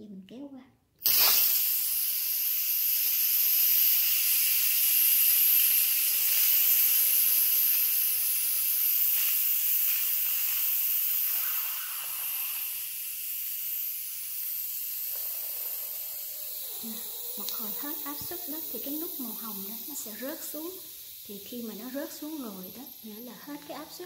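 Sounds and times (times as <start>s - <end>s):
pressure cooker valve hissing: 1.0s - 24.0s.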